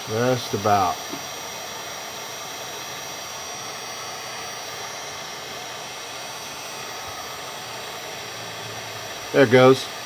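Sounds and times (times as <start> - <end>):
heat gun blowing hot air: 0.0 - 10.0.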